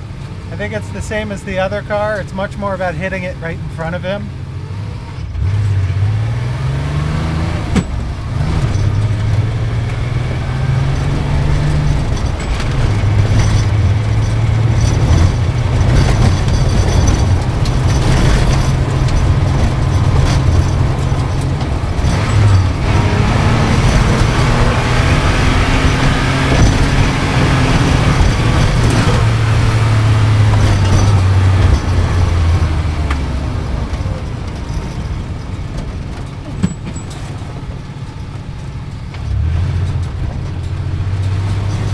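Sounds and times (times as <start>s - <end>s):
sports car engine running hard: 0.0s - 41.9s.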